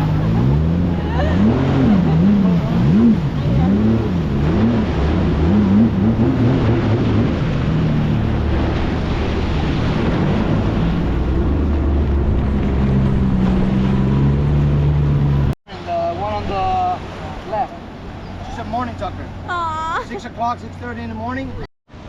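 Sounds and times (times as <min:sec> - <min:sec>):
jet ski engine: 0:00.0 - 0:22.0
wind and water rushing: 0:00.0 - 0:22.0.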